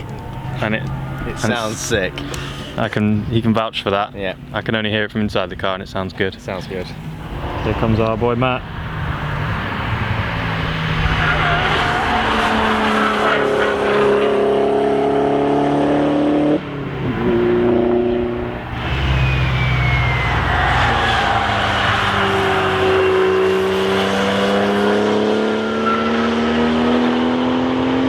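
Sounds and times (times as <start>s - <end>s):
cars passing at speed: 0.0s - 3.3s, 6.9s - 28.0s
engine whine: 0.0s - 3.4s, 6.8s - 28.0s.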